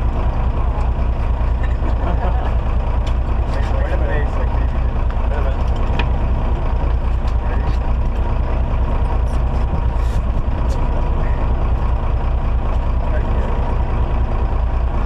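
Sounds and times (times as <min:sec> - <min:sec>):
boat engine running: 0:00.0 - 0:15.0
wind: 0:00.0 - 0:15.0.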